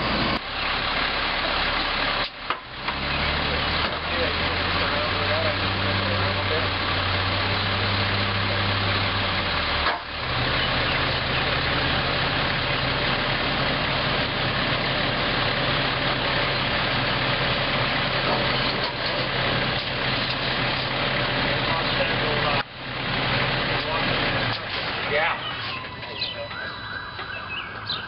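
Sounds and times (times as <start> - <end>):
heavy engine idling: 0.0 - 28.0.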